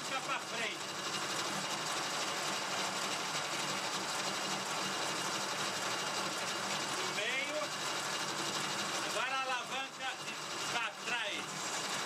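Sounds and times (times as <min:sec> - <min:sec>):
drive chains mechanical hum: 0:00.0 - 0:12.0.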